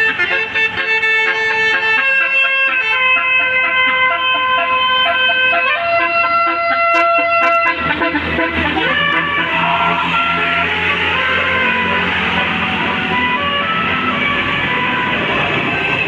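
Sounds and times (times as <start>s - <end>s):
musical air horn playing tune: 0.0s - 16.0s.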